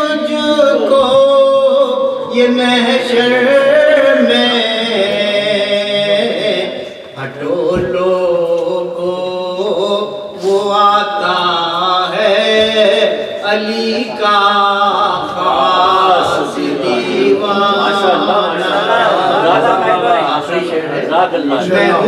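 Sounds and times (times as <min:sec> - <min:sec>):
man singing unaccompanied: 0:00.0 - 0:19.7.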